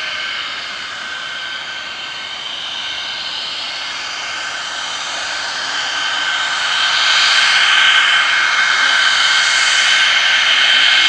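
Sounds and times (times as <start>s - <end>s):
jet engine whine and hiss: 0.0s - 11.0s.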